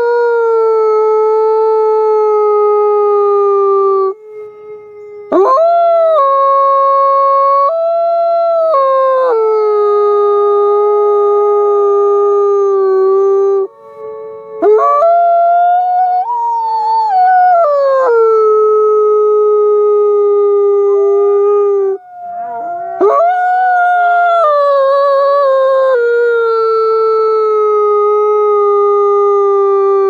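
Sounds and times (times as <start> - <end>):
wolves howling: 0.0 - 30.0.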